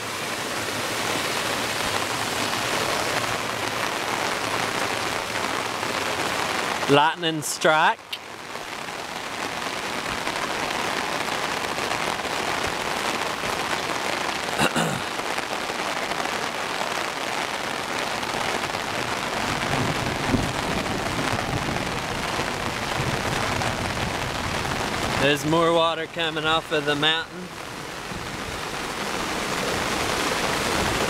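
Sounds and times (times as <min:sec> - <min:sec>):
heavy rain on umbrella: 0:00.0 - 0:31.0.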